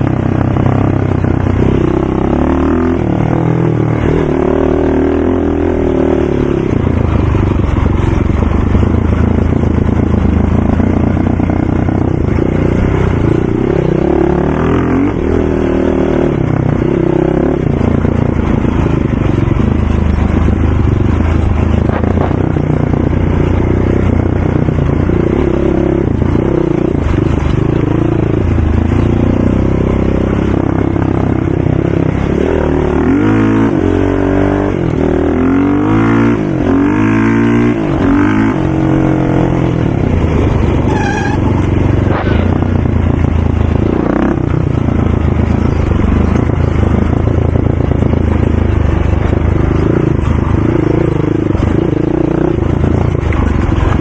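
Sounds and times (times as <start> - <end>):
atv engines revving: 0.0 - 54.0.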